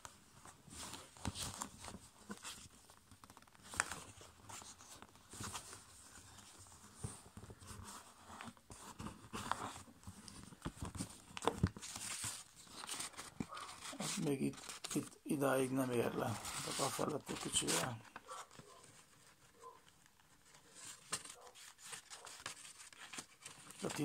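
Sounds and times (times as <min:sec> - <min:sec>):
paper rustling and crinkling: 0:00.0 - 0:24.0.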